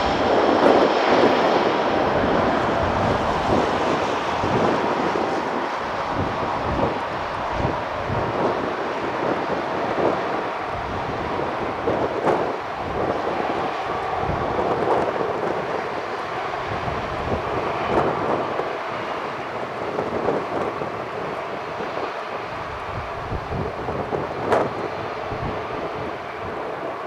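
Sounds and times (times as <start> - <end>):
airliner jet engines: 0.0 - 27.0
wind buffeting microphone: 0.0 - 27.0.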